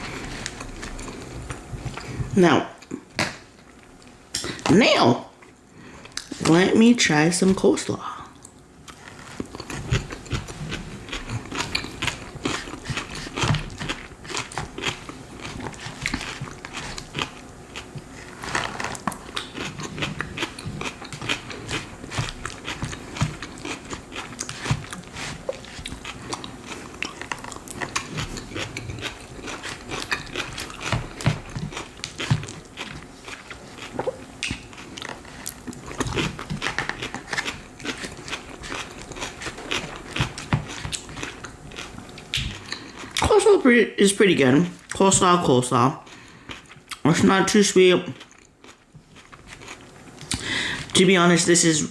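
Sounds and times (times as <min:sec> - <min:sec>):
chewing crunchy coleslaw: 0:00.0 - 0:04.7, 0:08.3 - 0:43.6, 0:44.5 - 0:51.0.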